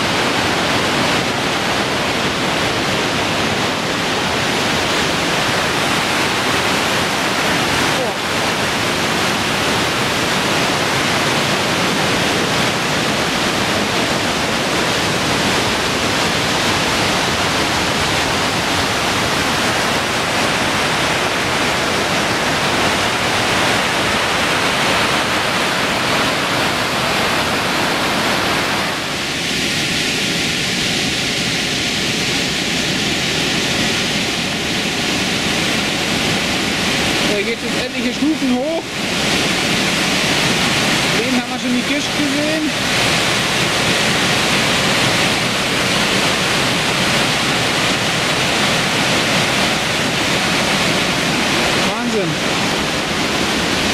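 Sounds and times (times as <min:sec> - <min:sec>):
waterfall roaring: 0:00.0 - 0:53.9.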